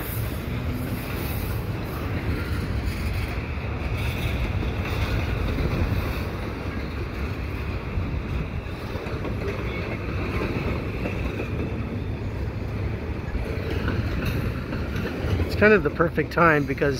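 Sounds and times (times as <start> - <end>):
freight train rolling on rails: 0.0 - 16.9
wind buffeting microphone: 0.4 - 15.5.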